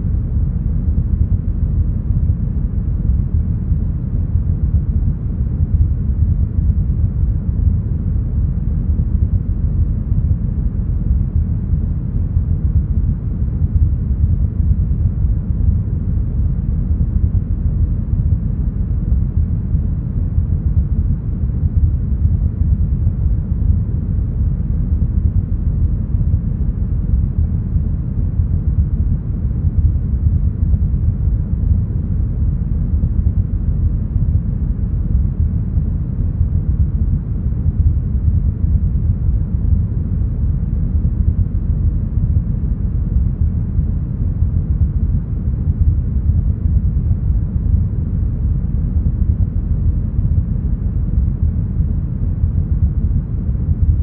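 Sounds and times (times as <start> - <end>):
brown noise rumble: 0.0 - 54.0.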